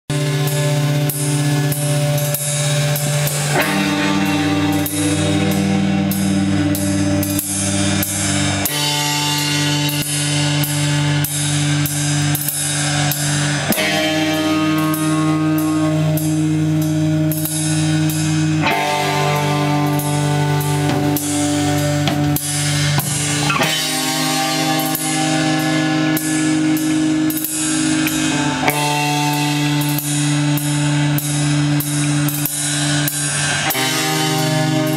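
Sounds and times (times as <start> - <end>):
drums with dense cymbal hits: 0.1 - 34.9
metal band playing live: 0.1 - 34.9
sustained guitar chords: 0.1 - 34.9.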